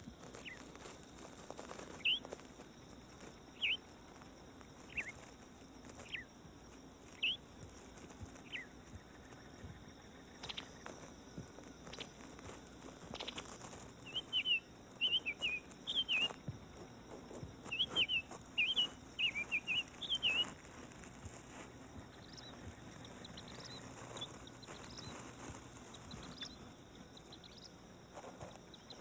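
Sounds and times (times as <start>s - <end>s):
small bird chirping: 0.1s - 29.0s.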